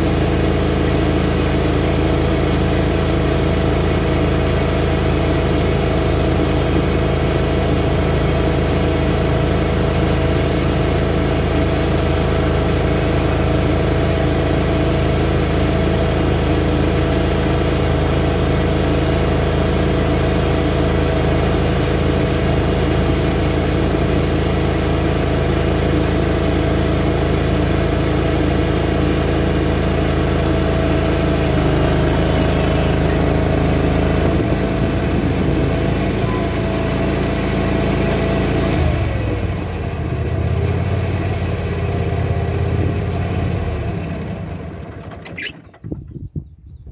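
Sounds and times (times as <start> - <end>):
mower engine running steadily: 0.0 - 46.9.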